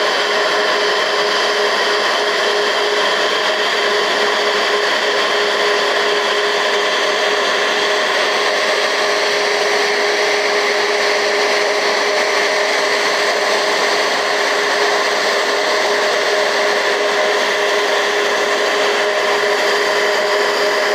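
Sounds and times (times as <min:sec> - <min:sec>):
jet engines idling: 0:00.0 - 0:20.9.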